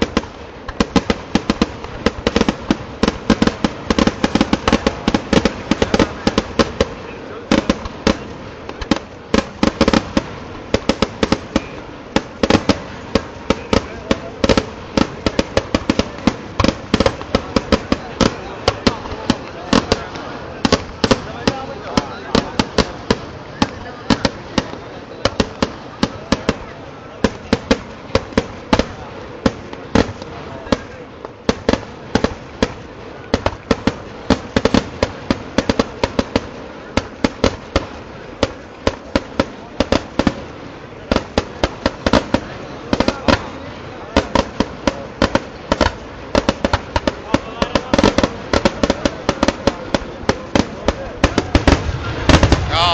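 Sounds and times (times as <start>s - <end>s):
fireworks banging: 0.0s - 52.9s.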